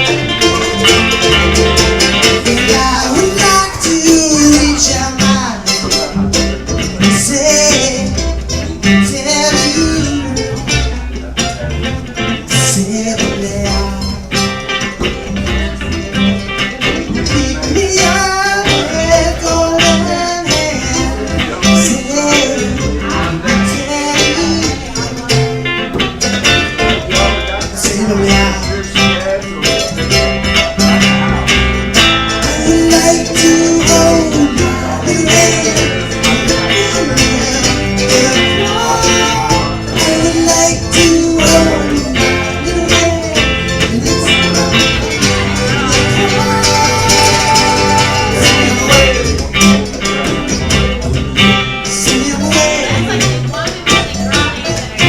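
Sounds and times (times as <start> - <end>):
live band with guitars: 0.0 - 55.0.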